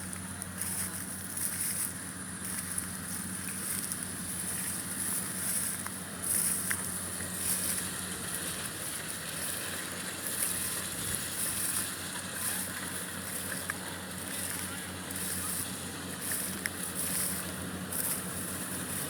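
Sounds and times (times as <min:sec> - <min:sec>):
harvester engine hum: 0:00.0 - 0:19.0.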